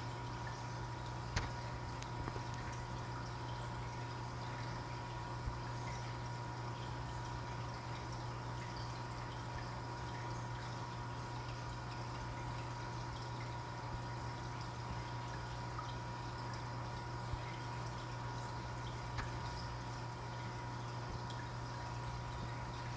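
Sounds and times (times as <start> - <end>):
aquarium bubbling: 0.0 - 22.9.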